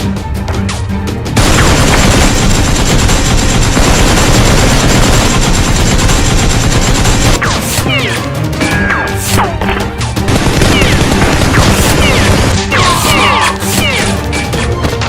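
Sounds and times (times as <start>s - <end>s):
action background music: 0.0s - 15.0s.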